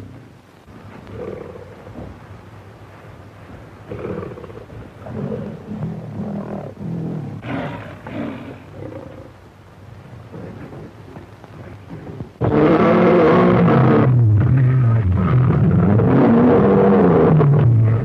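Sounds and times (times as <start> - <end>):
tiger growling and roaring: 0.0 - 2.2, 3.8 - 9.4, 10.2 - 18.0.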